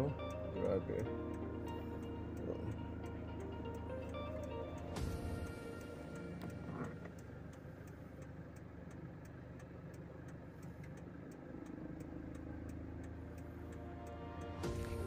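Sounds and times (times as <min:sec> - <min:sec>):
car engine and road noise: 0:00.0 - 0:15.0
indicator relay ticking: 0:00.0 - 0:15.0.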